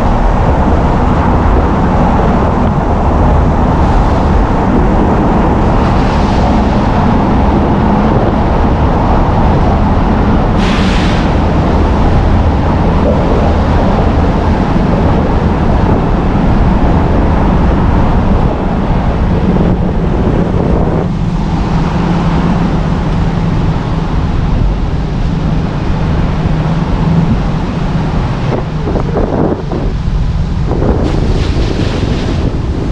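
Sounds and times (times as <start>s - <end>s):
car engine and tyre noise: 0.0s - 32.9s.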